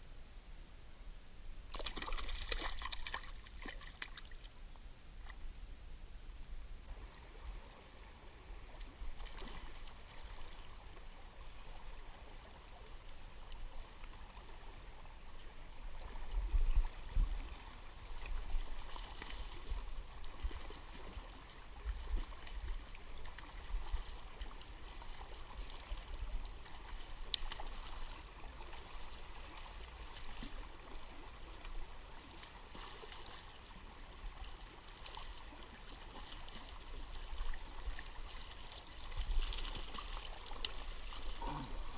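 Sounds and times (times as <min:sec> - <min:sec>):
stream water flowing: 0:01.6 - 0:41.9.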